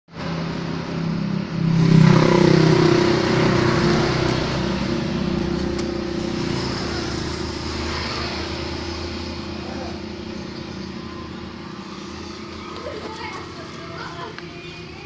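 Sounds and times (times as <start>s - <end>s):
engine running steadily: 0.1s - 15.0s.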